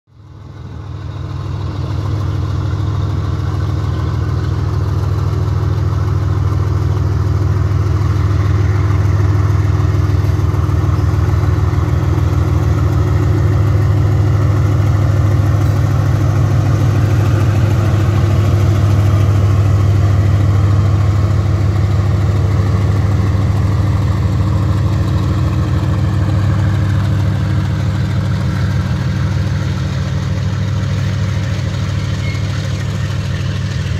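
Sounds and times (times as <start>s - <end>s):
diesel locomotive engine chugging: 0.1s - 33.9s.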